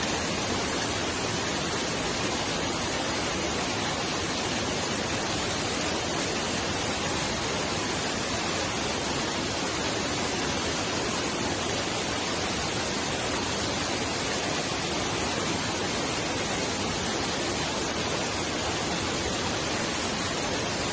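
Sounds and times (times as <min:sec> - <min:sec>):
mountain stream rushing: 0:00.0 - 0:20.9.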